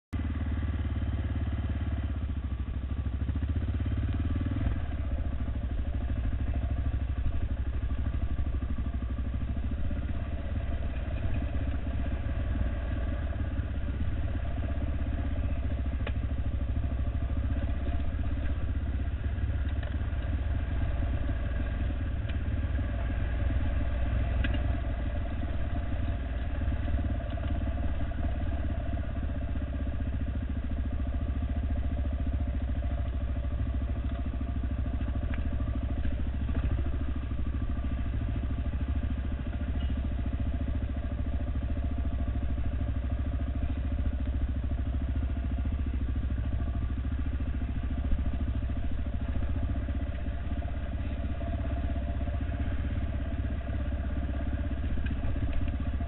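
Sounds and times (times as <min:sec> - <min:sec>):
dirt bike engine running: 0:00.1 - 0:56.0.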